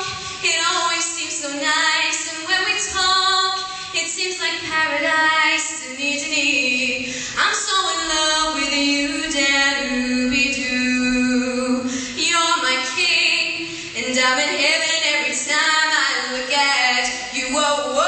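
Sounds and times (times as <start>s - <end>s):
woman singing a cappella: 0.0s - 18.0s.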